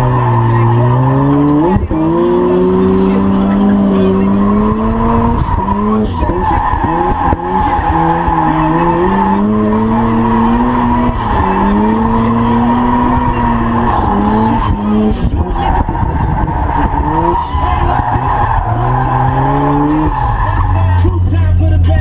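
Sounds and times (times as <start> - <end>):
tire squeal: 0.0 - 21.2
car engine revving: 0.0 - 22.0.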